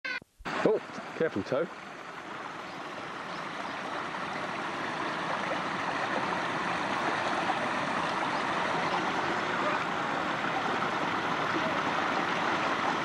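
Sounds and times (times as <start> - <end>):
spring water splashing over rocks: 0.5 - 13.0.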